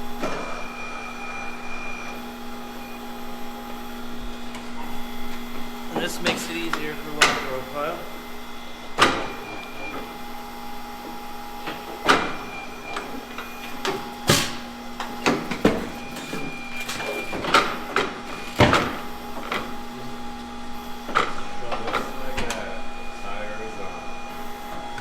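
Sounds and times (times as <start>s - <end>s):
tire changer motor hum: 0.0s - 25.0s.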